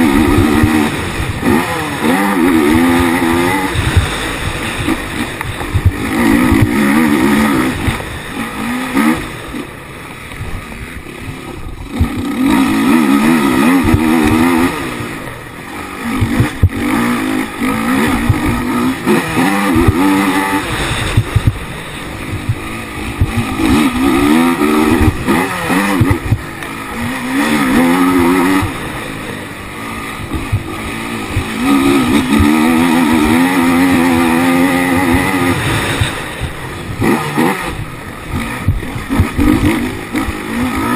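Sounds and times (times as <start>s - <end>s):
quad engine revving hard: 0.0s - 40.9s.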